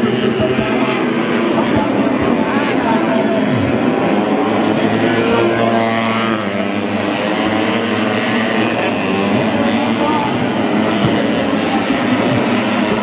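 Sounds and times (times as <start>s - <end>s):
racing motorcycles at high revs: 0.0s - 13.0s.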